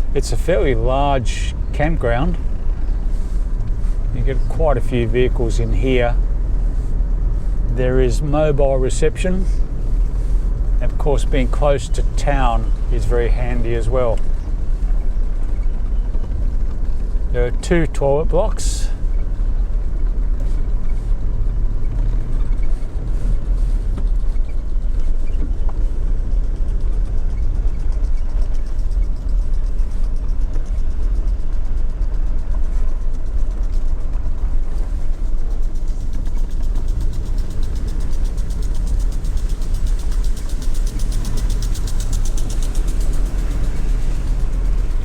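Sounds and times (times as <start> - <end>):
car engine rumble: 0.0 - 45.0
road noise: 0.0 - 45.0.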